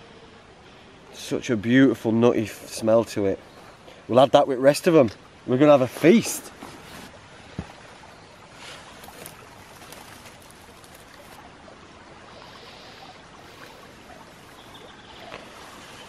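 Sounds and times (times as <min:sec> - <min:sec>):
rustles of grass and leaves: 0:01.9 - 0:16.0.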